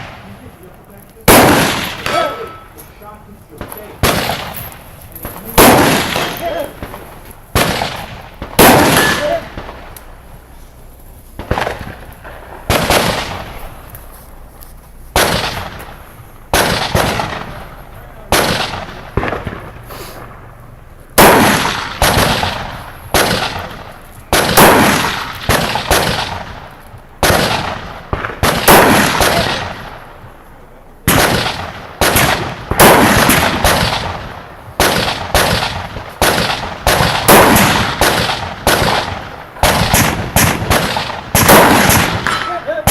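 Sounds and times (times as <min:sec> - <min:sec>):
rifle shots echoing: 0:00.0 - 0:42.9.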